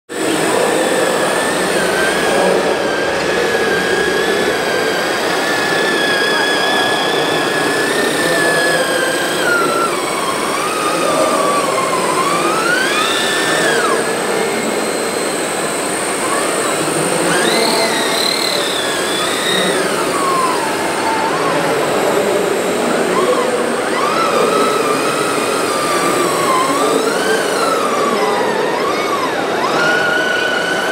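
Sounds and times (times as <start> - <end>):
hydraulic pump whining: 0.1 - 30.9.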